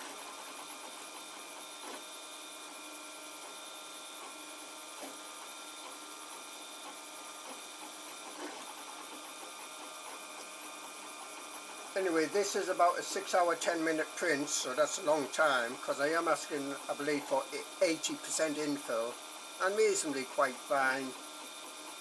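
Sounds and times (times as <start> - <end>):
printer stepper motors whining: 0.0 - 22.0.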